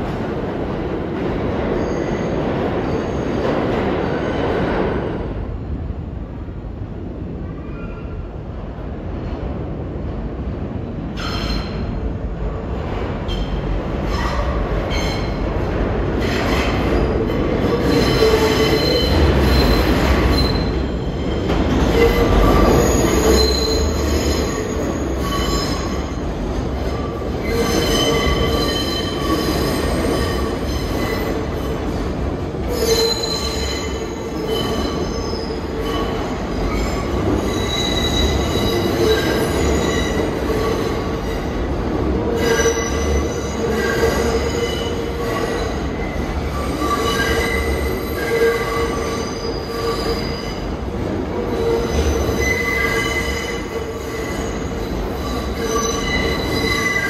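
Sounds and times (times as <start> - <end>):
train rumble: 0.0 - 57.0
steel wheels squealing on rails: 1.6 - 5.2, 7.5 - 8.3, 11.1 - 12.2, 12.9 - 57.0.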